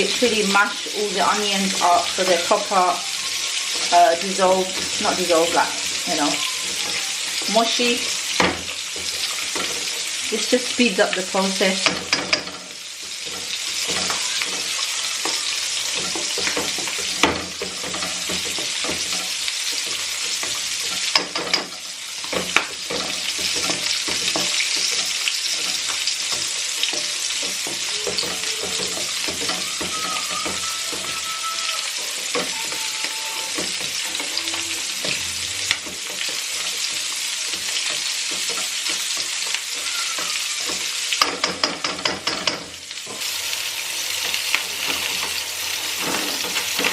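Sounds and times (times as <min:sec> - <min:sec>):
food sizzling in hot oil: 0:00.0 - 0:46.9.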